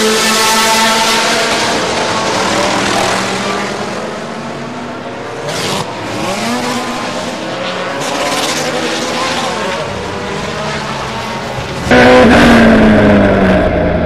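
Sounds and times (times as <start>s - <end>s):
race car engine: 0.0s - 14.0s.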